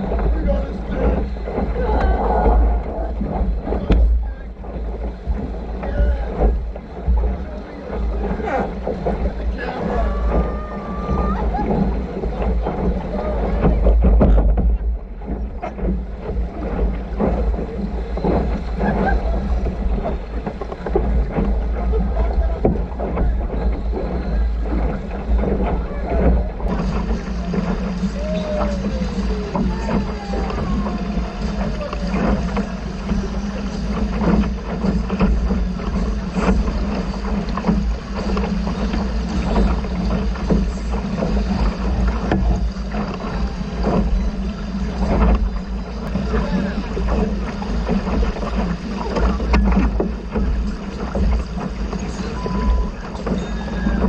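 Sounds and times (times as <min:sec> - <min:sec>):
boat engine hum: 0:00.0 - 0:54.0
water slapping against hull: 0:00.0 - 0:54.0
wind buffeting microphone: 0:00.0 - 0:54.0.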